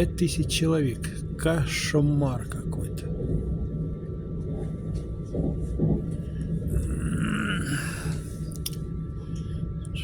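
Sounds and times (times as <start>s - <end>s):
faint train whine: 0.0s - 10.0s
train carriage rumble: 0.0s - 10.0s.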